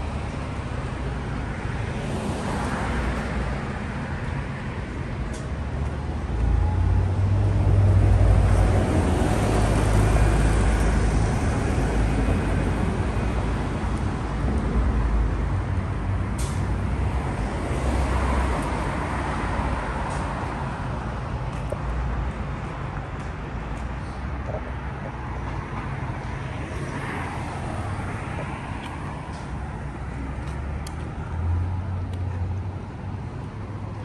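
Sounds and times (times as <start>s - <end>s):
steady road noise: 0.0s - 34.0s.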